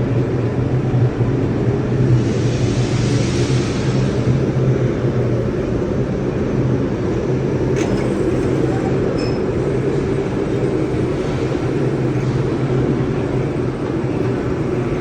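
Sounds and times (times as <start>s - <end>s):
furnace rumble with deep hum: 0.0s - 15.0s.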